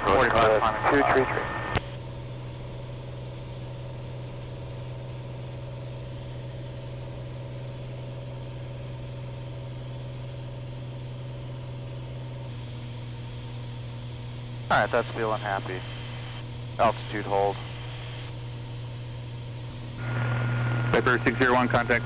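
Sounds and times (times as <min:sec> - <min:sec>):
airplane engine and propeller drone: 0:00.0 - 0:22.0.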